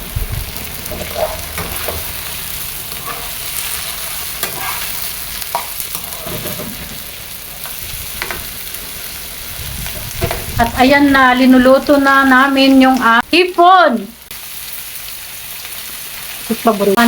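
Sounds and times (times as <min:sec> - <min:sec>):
shrimp sizzling in a pan: 0:00.0 - 0:10.8, 0:11.5 - 0:17.0.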